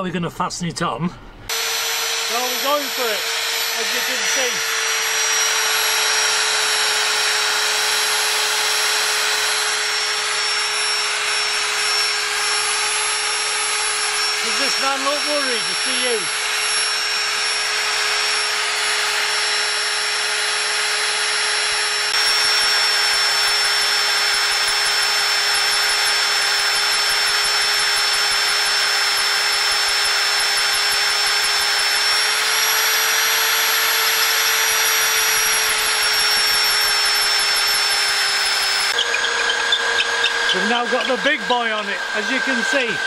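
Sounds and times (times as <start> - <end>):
drill whining into metal: 1.5 - 43.0.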